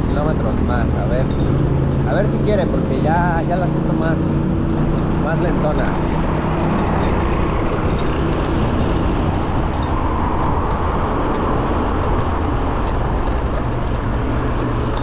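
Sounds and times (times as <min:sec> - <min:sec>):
road and traffic noise: 0:00.0 - 0:15.0
wind rush: 0:00.0 - 0:15.0.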